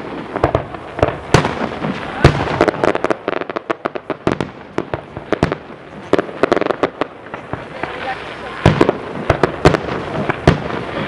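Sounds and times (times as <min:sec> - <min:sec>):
fireworks bangs and crackling pops: 0:00.0 - 0:11.0.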